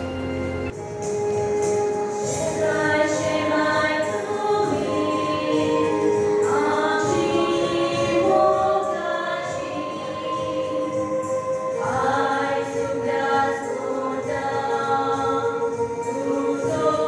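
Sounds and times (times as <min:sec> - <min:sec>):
young women singing together: 0:02.2 - 0:17.0.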